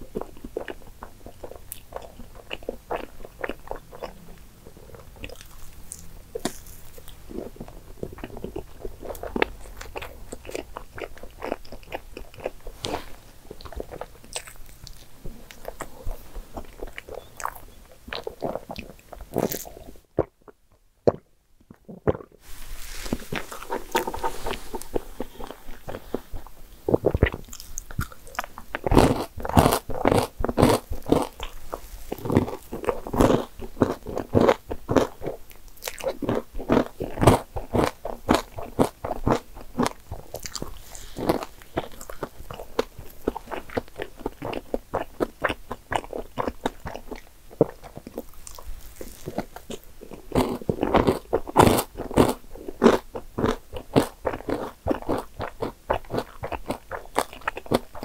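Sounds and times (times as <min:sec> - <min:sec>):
chewing soft food: 0:00.0 - 0:58.0
crisp crunches of candied nuts: 0:04.9 - 0:19.8, 0:22.6 - 0:58.0.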